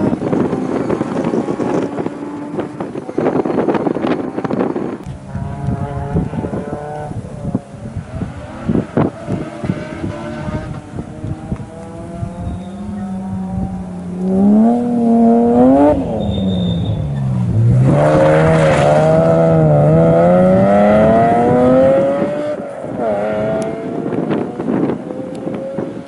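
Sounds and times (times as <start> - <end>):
rally car engine revving: 0.0 - 26.0
car rushing past: 4.6 - 26.0.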